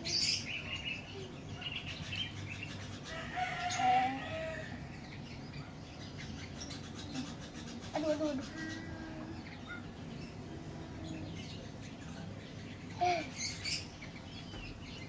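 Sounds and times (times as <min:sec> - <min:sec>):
baby lovebirds chirping: 0:00.0 - 0:15.0.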